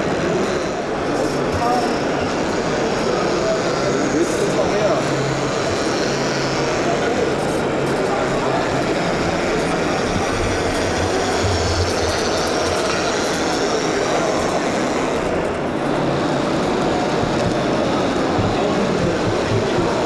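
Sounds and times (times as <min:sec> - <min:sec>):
busy exhibition hall din: 0:00.0 - 0:20.0.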